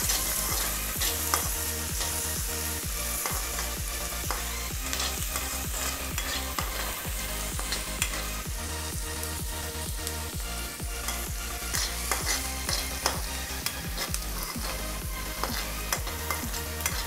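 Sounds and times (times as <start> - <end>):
metal spoon scraping a pan: 0.0 - 8.4, 10.9 - 17.0
onions sizzling in hot oil: 0.0 - 17.0.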